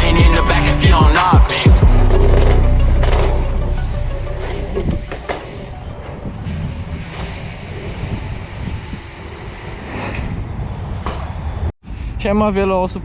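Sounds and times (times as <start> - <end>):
low rumbling noise: 1.8 - 12.4.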